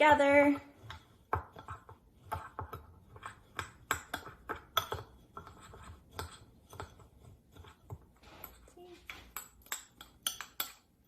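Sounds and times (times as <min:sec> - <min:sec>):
spoon scraping a bowl: 0:00.0 - 0:11.0.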